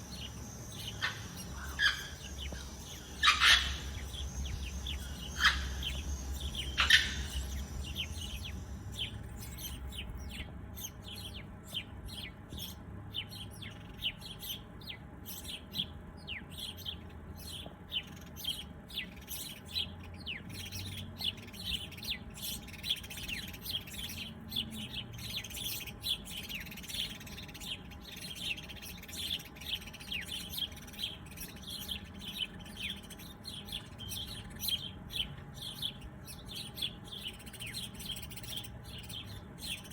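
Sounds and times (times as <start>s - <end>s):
loud bird calls: 0.0s - 39.9s
small birds chirping: 0.0s - 39.9s.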